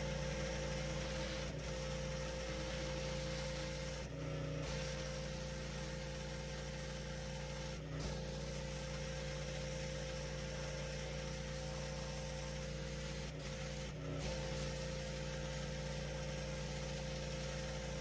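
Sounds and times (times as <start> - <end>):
high-pressure spray hiss: 0.0 - 4.1, 4.7 - 18.0.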